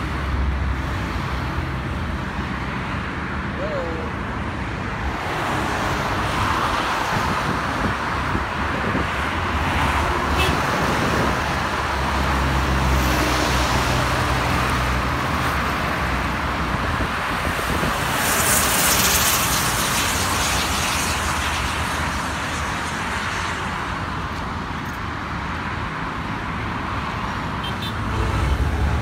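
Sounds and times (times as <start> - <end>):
road traffic rushing by: 0.0 - 29.0.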